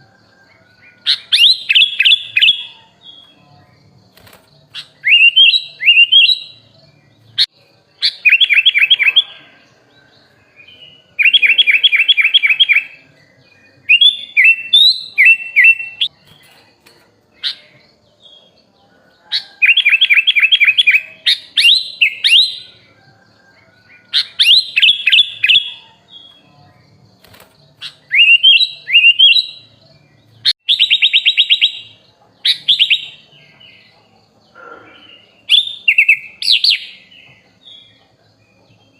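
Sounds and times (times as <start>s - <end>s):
bird singing chattering phrases: 0.8s - 38.9s.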